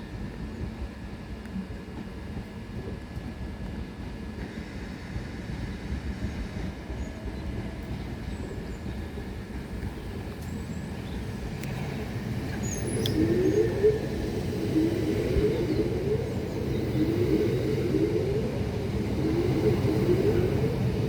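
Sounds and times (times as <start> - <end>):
train rolling on rails: 0.0 - 21.0.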